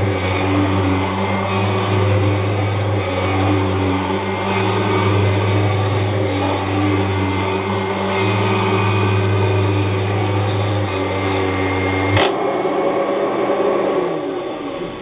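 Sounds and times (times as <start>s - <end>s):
vacuum cleaner running over carpet: 0.0s - 15.0s.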